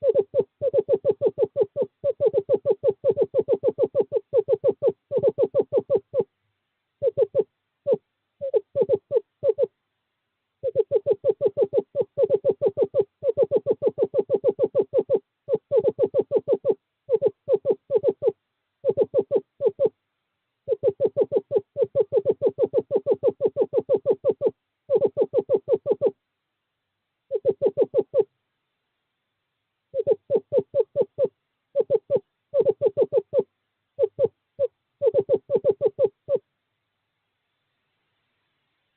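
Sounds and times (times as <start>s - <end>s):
owl trilling: 0.0s - 6.4s, 7.0s - 9.7s, 10.6s - 20.0s, 20.6s - 26.2s, 27.3s - 28.3s, 29.9s - 36.5s.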